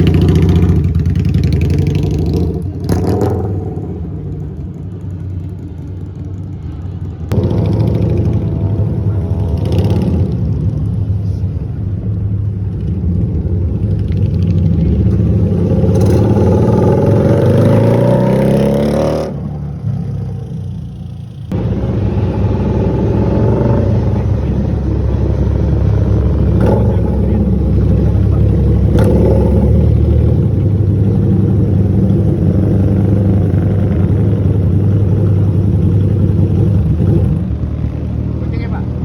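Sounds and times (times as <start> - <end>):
motorcycle engine accelerating: 0.0 - 11.1, 12.6 - 39.0.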